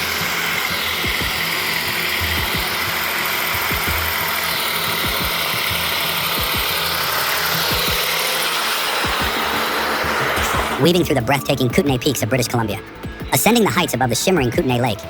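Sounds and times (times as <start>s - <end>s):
background music: 0.0s - 15.0s
truck engine running: 0.0s - 15.0s.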